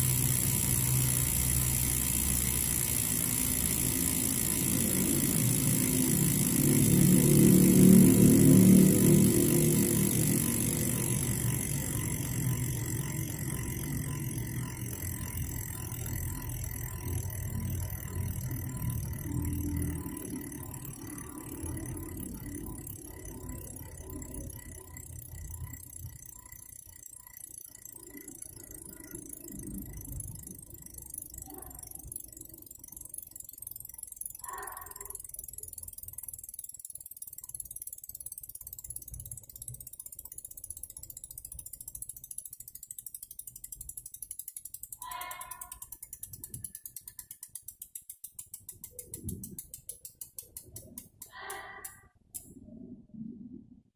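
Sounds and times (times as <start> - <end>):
bicycle freehub buzzing: 0.0 - 53.1.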